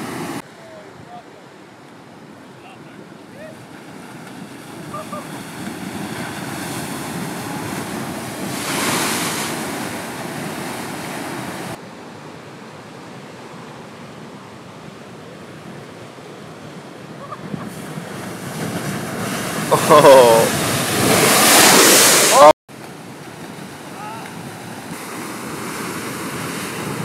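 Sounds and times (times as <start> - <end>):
ocean surf breaking over rocks: 0.0 - 27.0.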